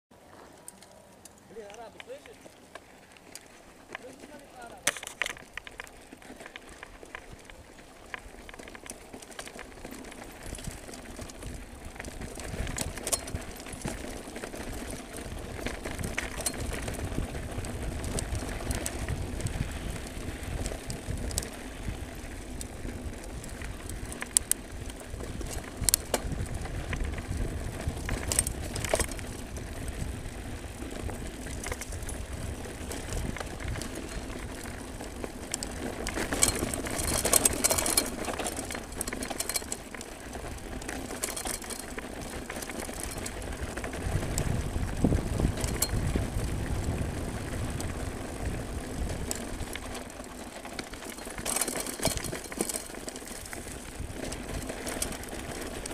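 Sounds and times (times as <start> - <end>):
tyre noise on loose dirt: 0.1 - 55.9
bike knocking and rattling: 0.2 - 55.9
wind rumbling on microphone: 9.6 - 55.9.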